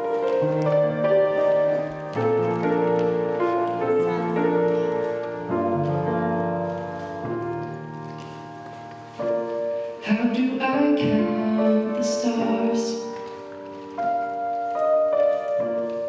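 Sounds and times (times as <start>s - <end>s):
slow gentle keyboard chords: 0.0s - 16.0s.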